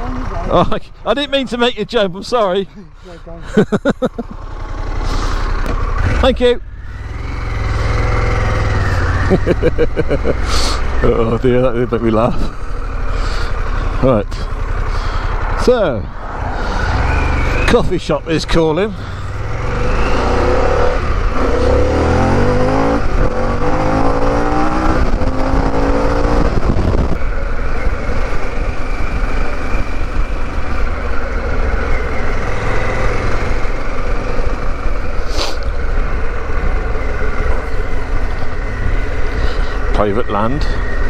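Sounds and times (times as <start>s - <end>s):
motorcycle engine accelerating: 3.6s - 41.0s.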